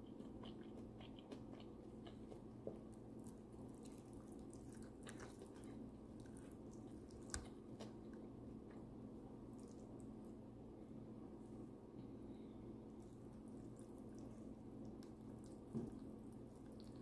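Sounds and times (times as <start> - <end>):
chewing: 0.0 - 10.3, 12.9 - 17.0
faint steady hum: 0.0 - 17.0.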